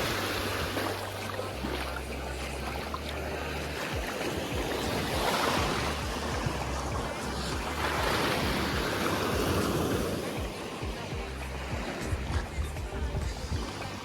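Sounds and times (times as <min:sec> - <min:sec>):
waves washing onto a beach: 0:00.0 - 0:14.0
wind rumbling on microphone: 0:00.0 - 0:14.0.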